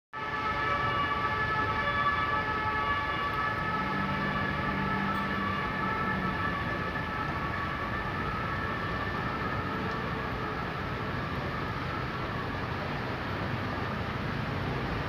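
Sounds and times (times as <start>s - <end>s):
outdoor background rush: 0.2s - 15.0s.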